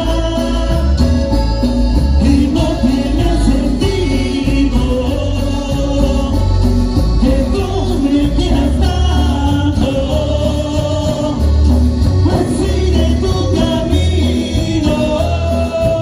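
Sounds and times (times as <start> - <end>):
live band music: 0.0 - 16.0
person singing: 0.0 - 16.0.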